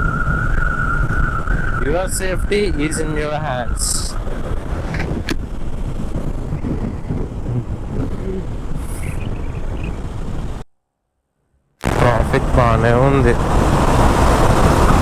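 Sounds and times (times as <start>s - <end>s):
motorcycle engine rumble: 0.0s - 10.7s, 11.8s - 15.0s
road and wind noise: 0.0s - 10.7s, 11.8s - 15.0s.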